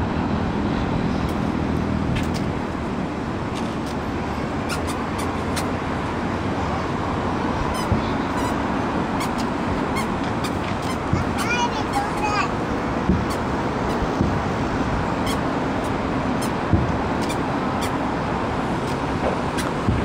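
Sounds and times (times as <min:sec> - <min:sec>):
traffic-like outdoor din: 0:00.0 - 0:20.0.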